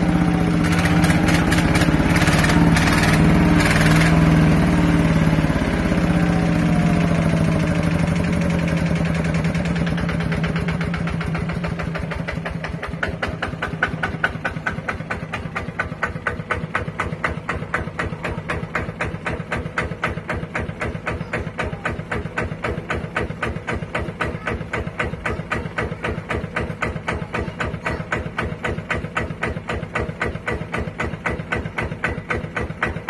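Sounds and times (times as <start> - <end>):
diesel engine idling knocks: 0.0 - 33.0.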